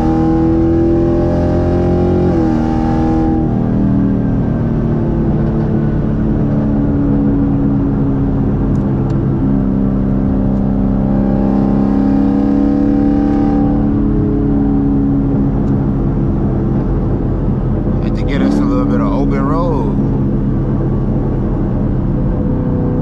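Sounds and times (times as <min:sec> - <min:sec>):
car engine cruising from inside cabin: 0:00.0 - 0:23.0.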